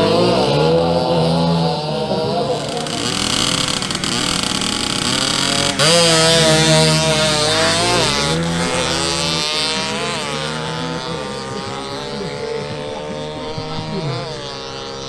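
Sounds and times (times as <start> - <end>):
small motorcycle engines revving: 0.0 - 15.0.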